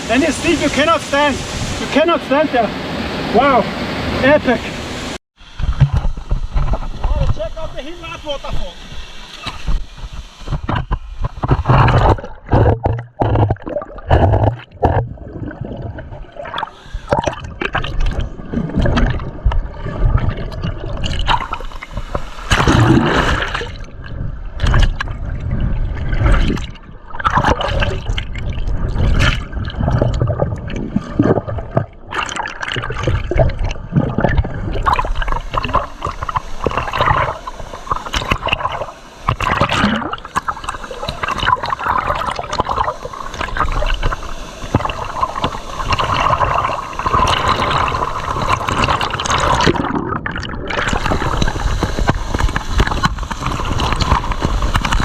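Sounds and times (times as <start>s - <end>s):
water splashing and gurgling: 0.0s - 55.0s.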